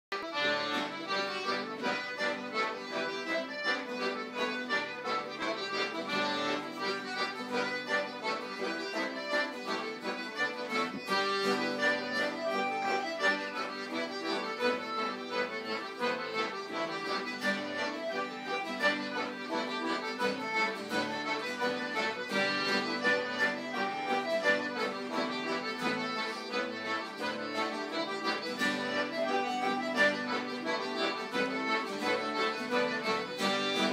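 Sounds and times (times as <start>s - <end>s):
traditional instrumental tune: 0.1s - 33.9s.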